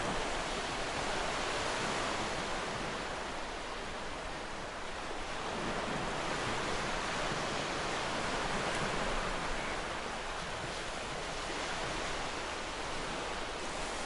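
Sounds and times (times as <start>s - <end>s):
ocean surf breaking on beach: 0.0s - 14.0s.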